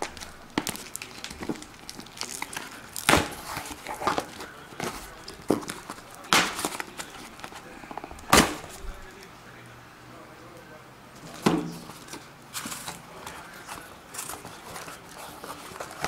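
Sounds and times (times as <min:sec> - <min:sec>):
cardboard ripping: 0:00.0 - 0:09.0, 0:11.5 - 0:16.0
cardboard and tape crinkling: 0:00.0 - 0:09.3, 0:11.2 - 0:16.0.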